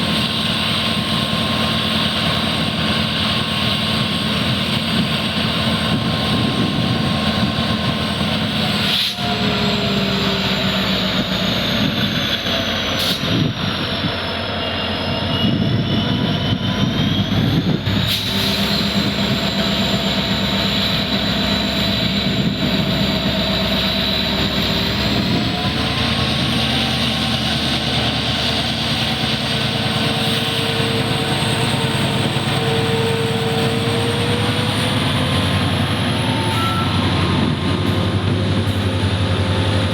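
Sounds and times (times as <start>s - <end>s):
locomotive diesel engines humming: 0.0s - 39.9s.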